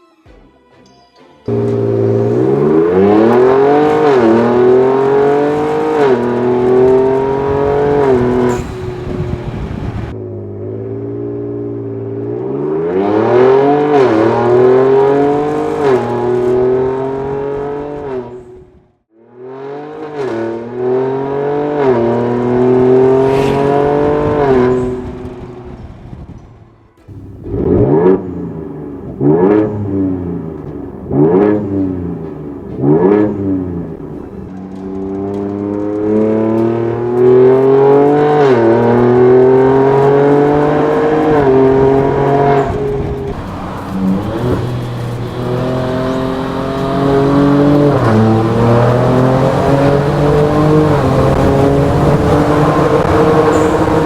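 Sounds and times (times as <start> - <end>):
car engine accelerating: 1.5 - 54.0.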